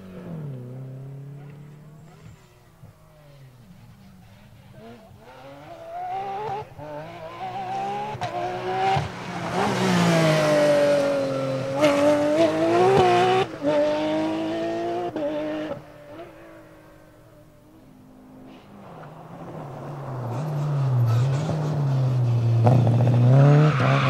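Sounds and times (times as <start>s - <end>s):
rally car engine at full throttle: 0.0s - 24.0s.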